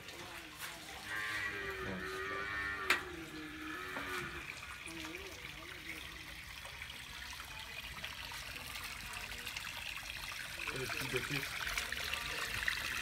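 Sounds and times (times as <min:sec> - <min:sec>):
water splashing into a bucket: 0:00.0 - 0:13.0.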